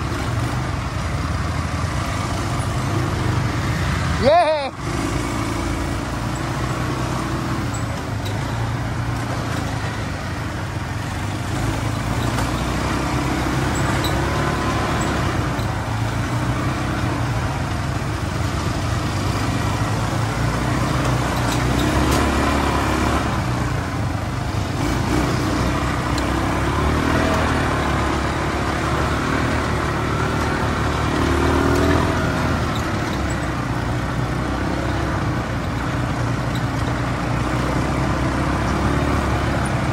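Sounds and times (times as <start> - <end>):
quad bike engines running: 0.0 - 39.9
tyres rolling on dirt: 5.4 - 39.9.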